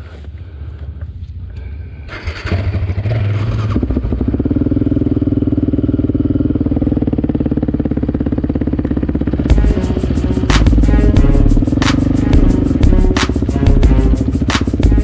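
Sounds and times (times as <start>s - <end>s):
quad engine revving: 2.1s - 15.0s.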